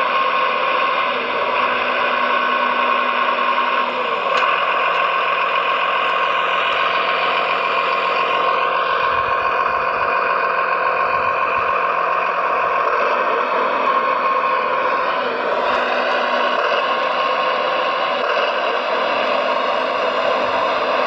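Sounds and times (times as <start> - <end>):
model vehicle mechanical whine: 0.0 - 21.0.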